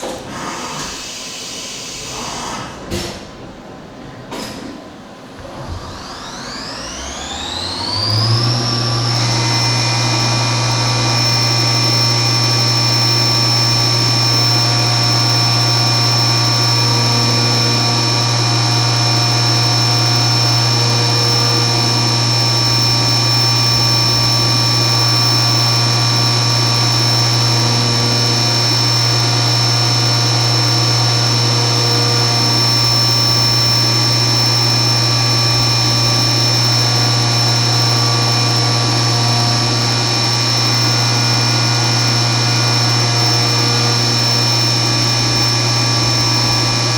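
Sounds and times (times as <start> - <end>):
milling machine spindle whine: 0.0 - 3.3, 5.3 - 46.9.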